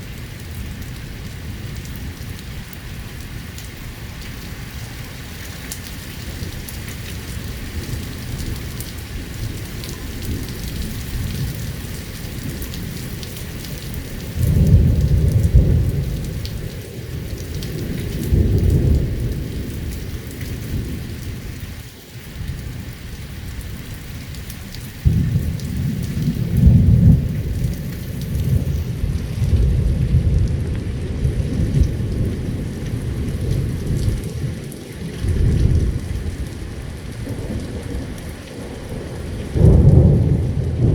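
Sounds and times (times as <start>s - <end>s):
heavy rain: 0.0s - 40.9s
thunder rumbling: 6.2s - 21.8s, 23.8s - 40.9s.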